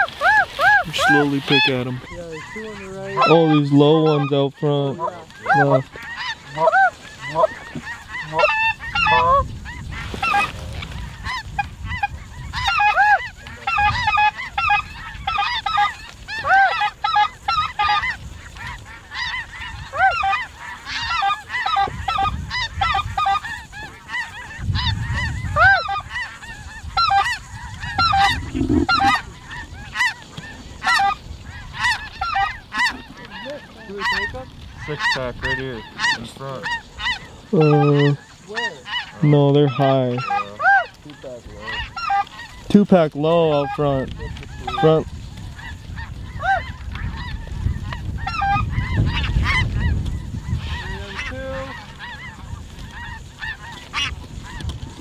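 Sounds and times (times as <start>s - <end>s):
flock of geese honking: 0.0s - 55.0s.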